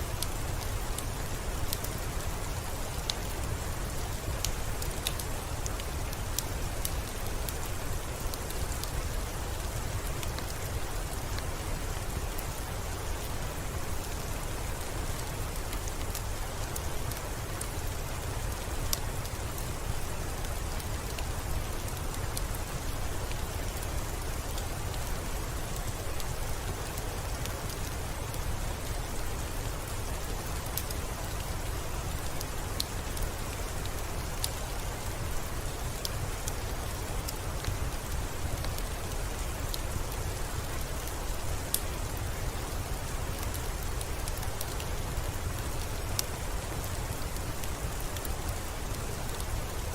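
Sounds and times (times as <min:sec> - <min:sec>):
rain on a window: 0:00.0 - 0:49.9.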